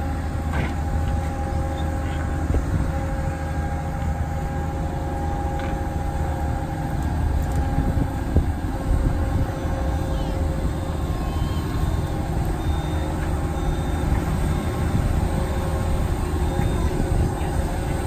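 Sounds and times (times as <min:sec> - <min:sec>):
diesel engine running: 0:00.0 - 0:18.0
steady whine: 0:00.0 - 0:18.0
wind rumble on microphone: 0:00.0 - 0:18.0.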